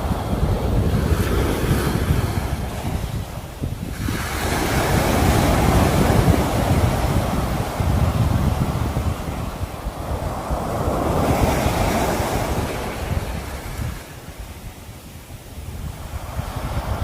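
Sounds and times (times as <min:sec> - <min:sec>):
sea waves breaking on shore: 0:00.0 - 0:17.0
wind noise on microphone: 0:00.0 - 0:17.0.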